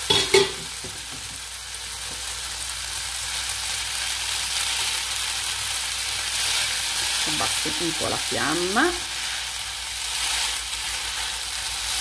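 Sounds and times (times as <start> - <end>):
pasta sizzling in a frying pan: 0.0 - 12.0.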